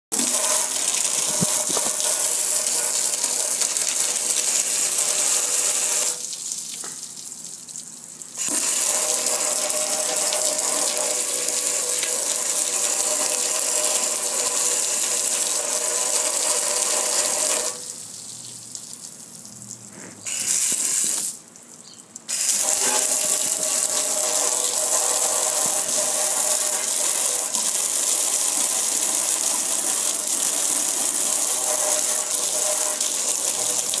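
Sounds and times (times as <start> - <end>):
water jet spraying on metal: 0.2 - 6.9, 8.4 - 19.2, 20.2 - 21.4, 22.3 - 34.0.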